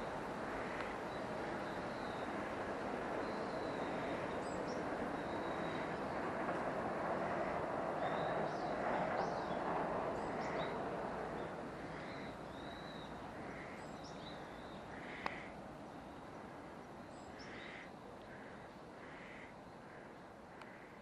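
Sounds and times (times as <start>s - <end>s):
distant city rumble: 0.0s - 21.0s.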